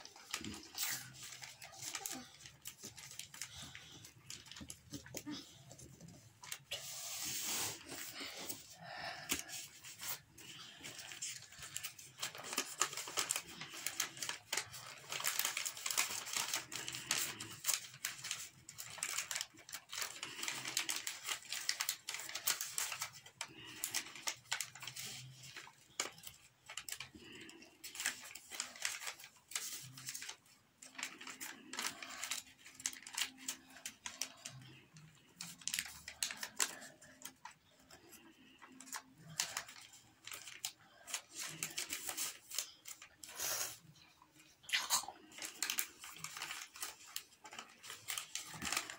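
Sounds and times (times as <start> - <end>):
paper crinkling and rustling: 0.0 - 48.9.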